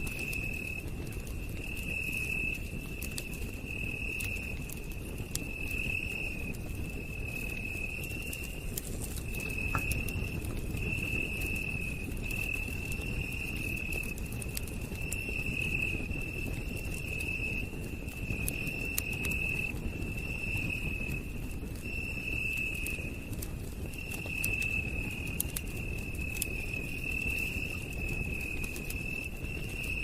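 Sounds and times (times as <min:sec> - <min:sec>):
campfire crackles: 0:00.0 - 0:30.0
night insects trilling: 0:00.0 - 0:30.0.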